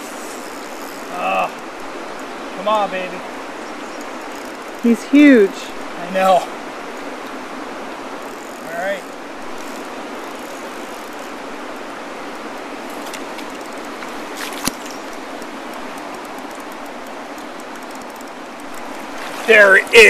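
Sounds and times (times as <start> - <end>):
faint rapid ticking: 0.0 - 7.4, 8.1 - 20.0
flowing river water: 0.0 - 20.0.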